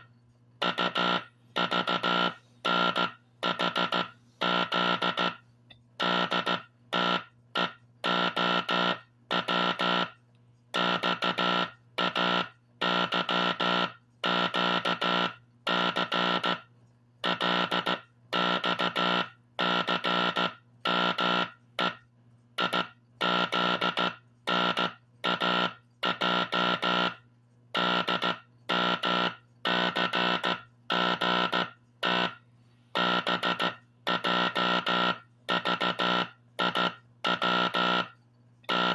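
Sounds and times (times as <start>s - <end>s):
buzzy morse code tone: 0.0s - 10.2s, 10.8s - 38.9s
faint low hum: 0.0s - 38.9s.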